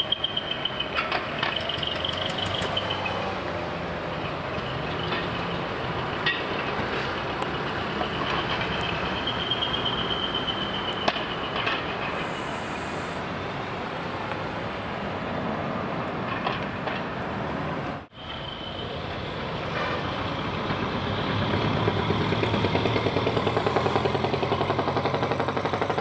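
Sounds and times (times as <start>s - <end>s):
diesel truck engine running: 0.0s - 15.2s, 18.2s - 26.0s.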